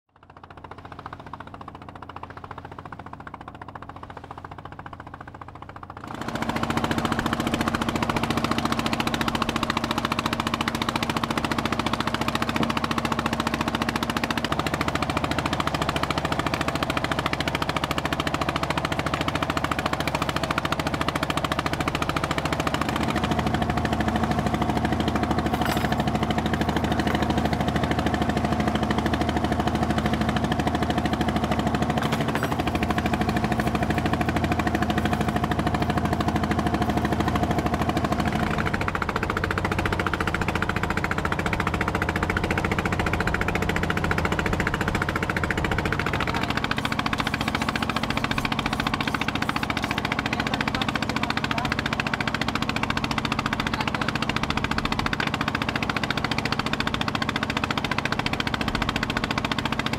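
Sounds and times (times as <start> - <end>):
boat engine droning: 0.1 - 59.9.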